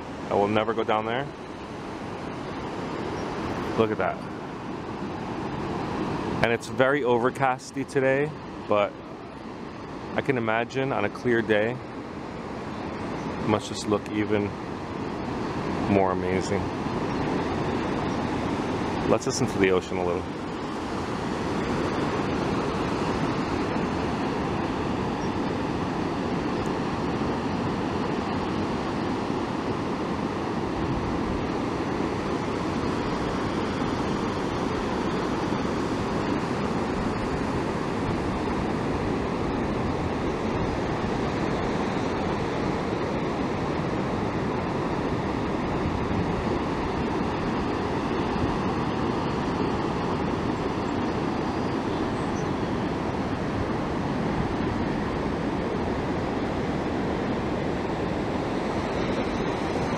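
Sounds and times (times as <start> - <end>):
ocean surf roaring: 0.0 - 59.9.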